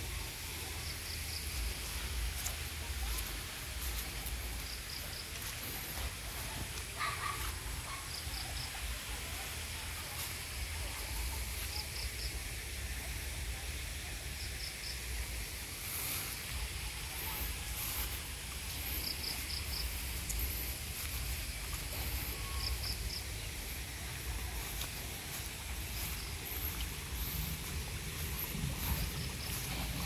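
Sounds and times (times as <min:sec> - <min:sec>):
high insect hiss: 0:00.0 - 0:30.0.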